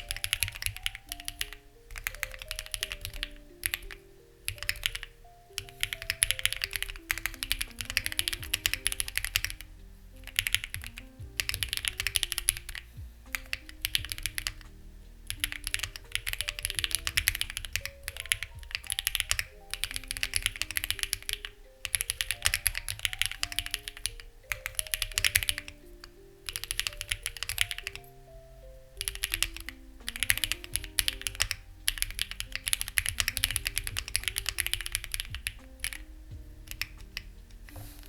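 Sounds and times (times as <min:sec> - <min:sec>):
mechanical keyboard key clacks: 0:00.0 - 0:09.6, 0:10.2 - 0:14.7, 0:15.3 - 0:25.8, 0:26.5 - 0:28.0, 0:29.0 - 0:36.0
soft background music: 0:00.0 - 0:38.0.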